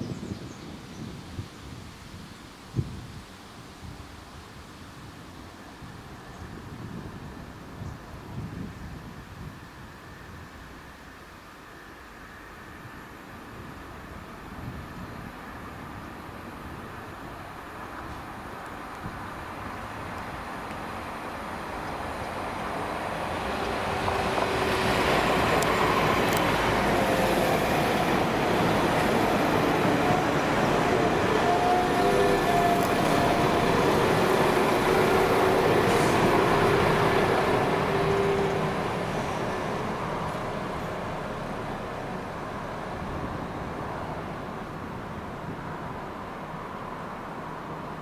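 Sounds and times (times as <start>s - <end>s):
diesel train passing: 4.9s - 48.0s.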